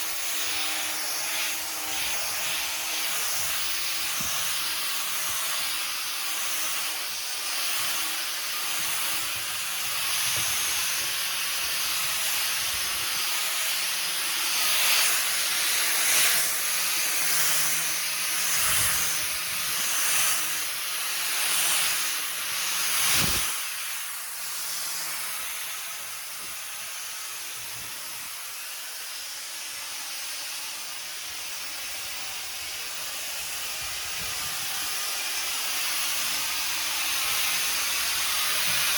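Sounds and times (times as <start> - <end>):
sandpaper hissing on wood: 0.0 - 38.9.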